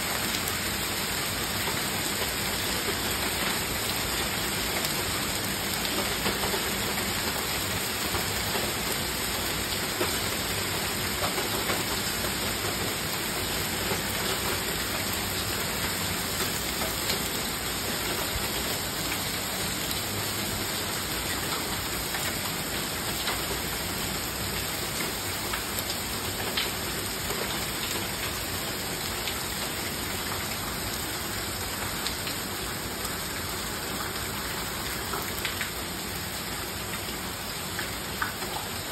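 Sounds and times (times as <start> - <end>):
rain and hail falling: 0.0 - 38.9.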